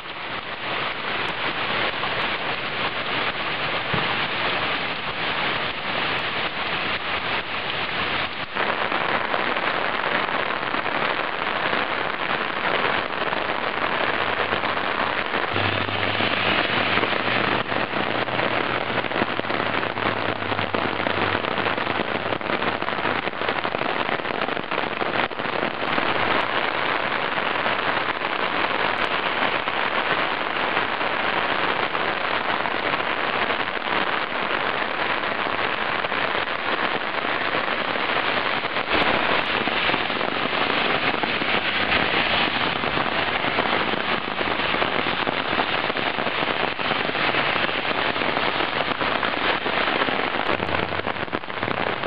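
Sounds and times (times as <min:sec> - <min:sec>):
rain falling on road and lawn: 0:00.0 - 0:52.0.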